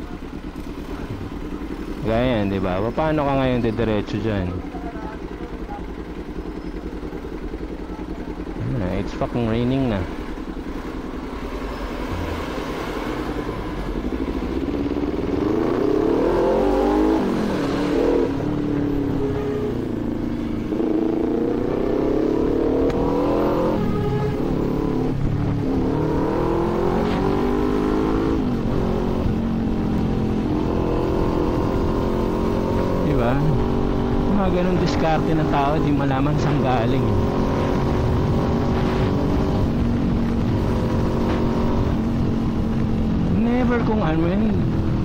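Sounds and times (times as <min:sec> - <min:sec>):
motorcycle accelerating through gears: 0:00.0 - 0:45.0.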